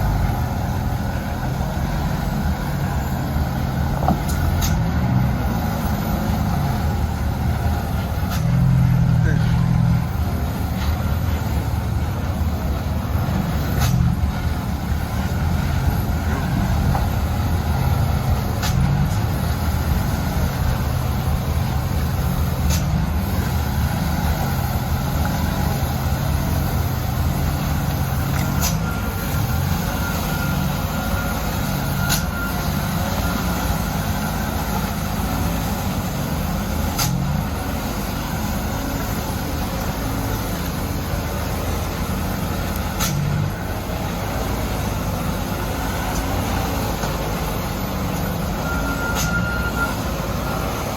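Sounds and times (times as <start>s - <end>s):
truck diesel engine droning: 0.0s - 50.9s.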